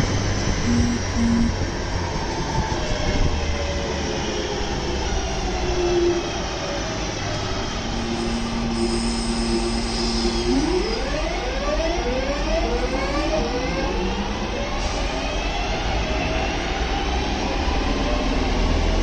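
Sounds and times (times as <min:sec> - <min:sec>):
train drive whine: 0:00.0 - 0:19.0.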